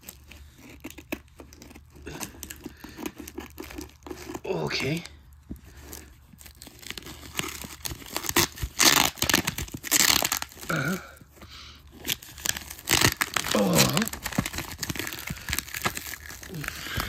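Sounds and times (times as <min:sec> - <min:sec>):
plastic wrap crinkling and tearing: 0:00.0 - 0:17.0.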